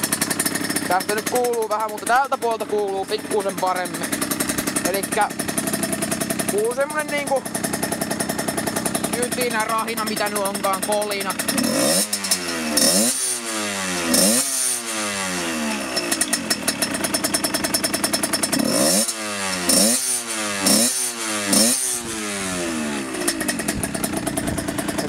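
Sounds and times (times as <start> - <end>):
engine rattling clatter: 0.0 - 25.0
two-stroke motorcycle engine revving: 0.0 - 25.0.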